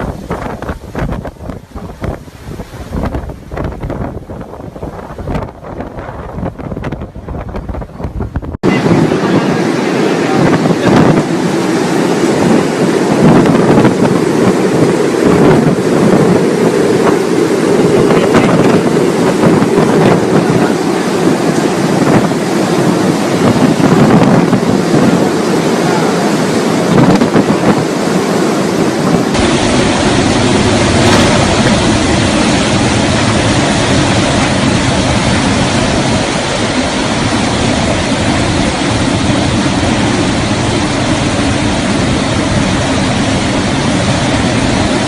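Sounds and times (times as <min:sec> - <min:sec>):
steady low rumble: 0:00.0 - 0:45.0
wind buffeting microphone: 0:00.0 - 0:45.0.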